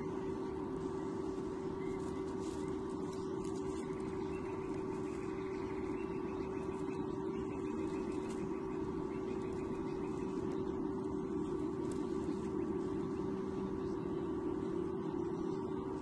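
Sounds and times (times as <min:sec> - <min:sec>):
rumbling hiss: 0:00.0 - 0:16.0
steady low hum: 0:00.0 - 0:16.0.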